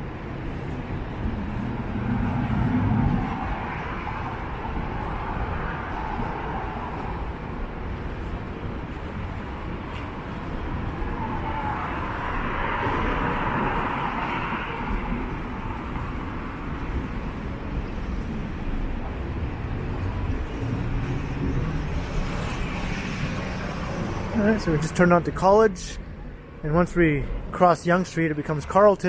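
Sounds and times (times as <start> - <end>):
cars driving past: 0.0 - 28.8.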